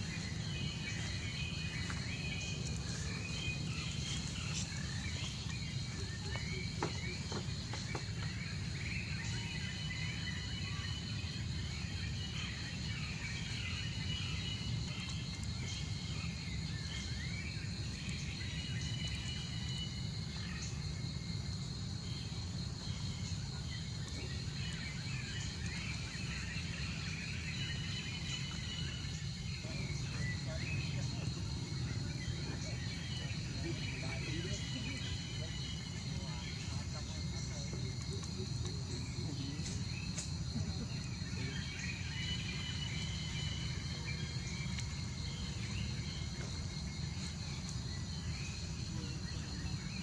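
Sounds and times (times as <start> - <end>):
insect drone: 0.0 - 50.0.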